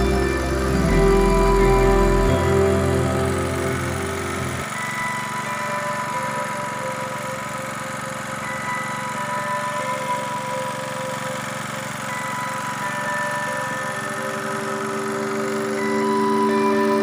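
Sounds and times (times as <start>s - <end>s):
background music: 0.0s - 11.4s, 12.1s - 17.0s
small engine running: 0.0s - 17.0s.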